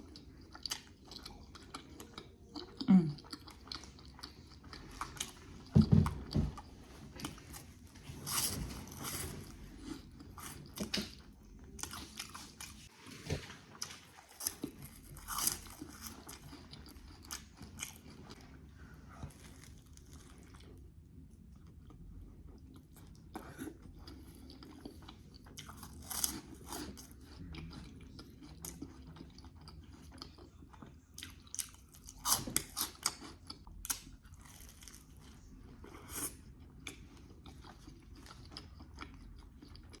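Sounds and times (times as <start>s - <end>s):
biting and wet chewing: 0.0s - 40.0s.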